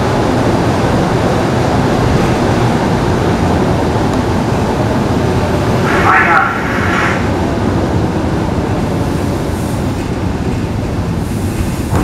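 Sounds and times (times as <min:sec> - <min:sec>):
train running on rails: 0:00.0 - 0:12.0.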